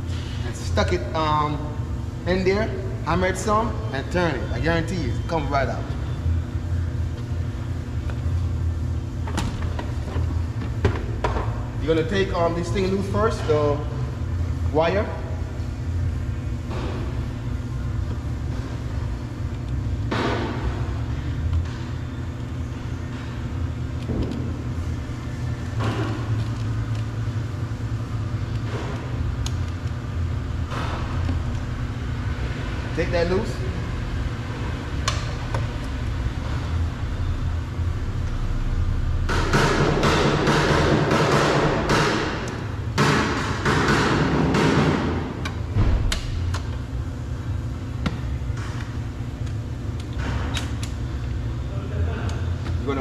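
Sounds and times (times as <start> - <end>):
steady low hum: 0.0 - 53.0
steady low rumble: 0.0 - 53.0.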